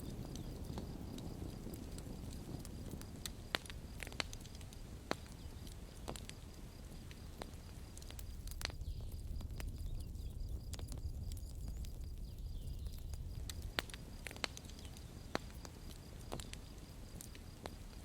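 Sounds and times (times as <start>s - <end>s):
campfire wood crackling: 0.0s - 18.0s
low rumble of flames: 0.0s - 18.0s.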